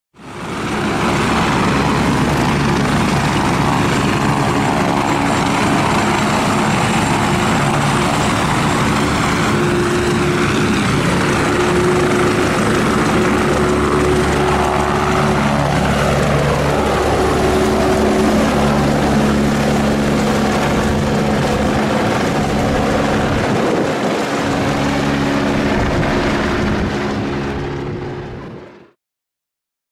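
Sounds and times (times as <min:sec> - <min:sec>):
helicopter rotor and turbine: 0:00.2 - 0:29.0.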